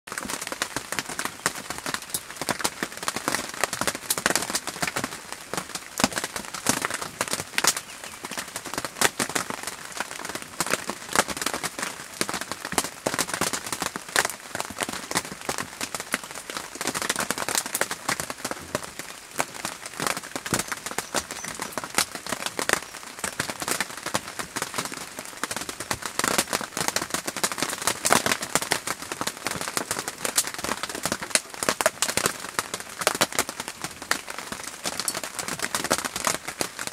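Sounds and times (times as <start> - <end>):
rain pattering: 0.1 - 36.9.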